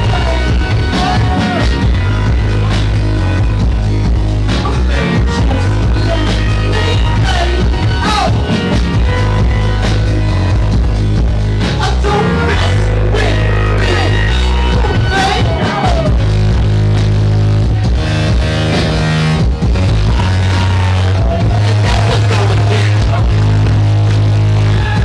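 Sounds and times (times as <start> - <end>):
heavy bass line: 0.0 - 25.0.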